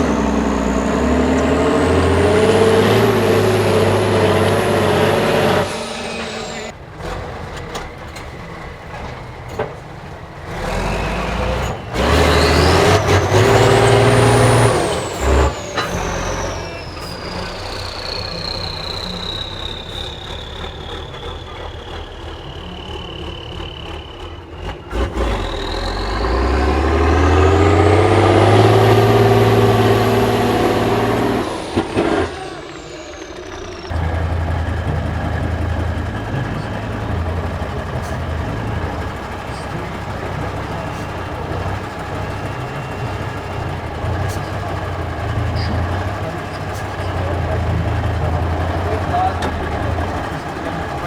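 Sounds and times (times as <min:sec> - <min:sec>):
diesel truck engine revving: 0:00.0 - 0:51.0.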